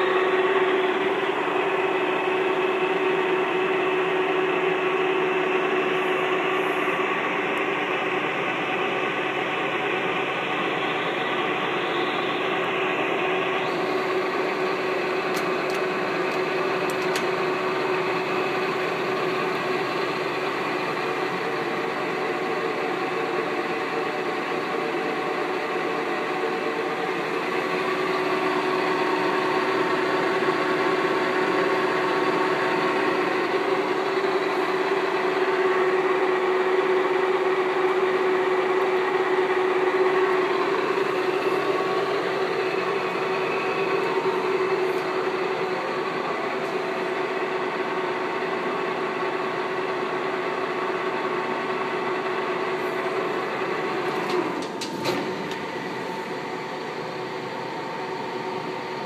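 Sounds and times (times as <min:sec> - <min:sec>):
lathe humming: 0:00.0 - 0:59.0.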